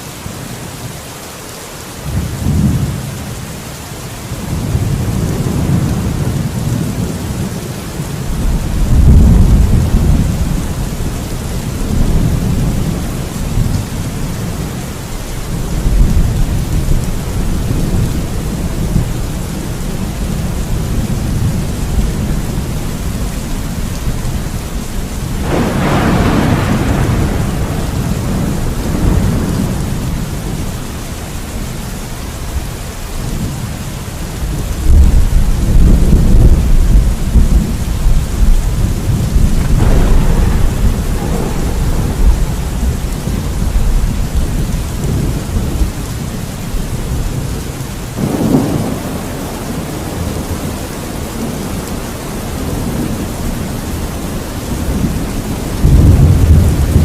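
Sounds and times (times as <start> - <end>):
heavy rain: 0.0 - 57.0
thunder rumbling and cracking: 4.3 - 57.0.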